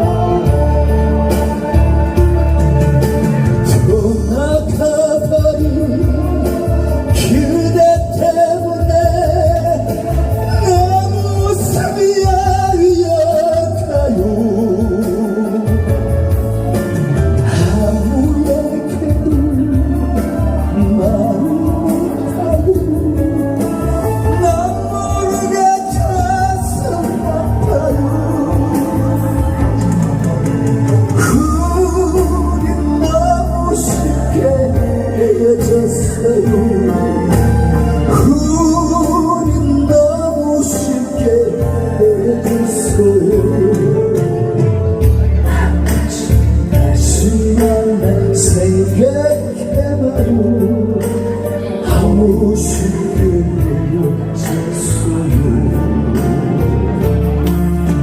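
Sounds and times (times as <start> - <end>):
ballad song with bass beat: 0.0 - 58.0.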